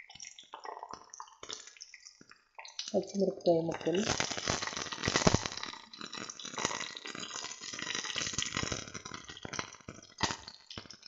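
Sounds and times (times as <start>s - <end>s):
food sizzling in hot oil: 0.0s - 11.0s
oil spitting and crackling: 0.2s - 11.0s.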